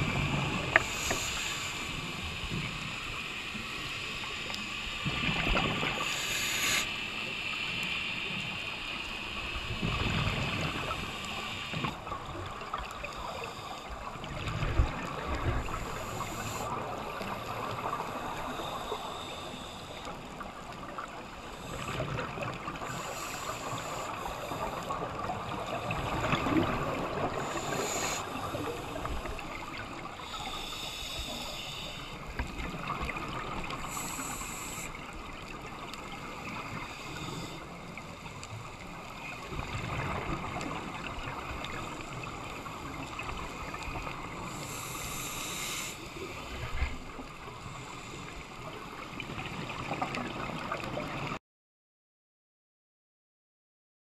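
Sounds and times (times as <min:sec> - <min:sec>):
steady underwater rush: 0:00.0 - 0:51.4
underwater bubbles gurgling: 0:00.0 - 0:51.4.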